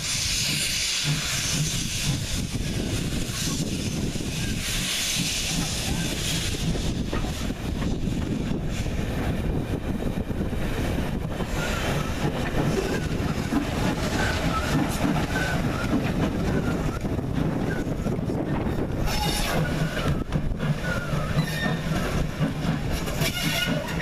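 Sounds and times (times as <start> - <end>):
steam train rolling on rails: 0.0 - 24.0.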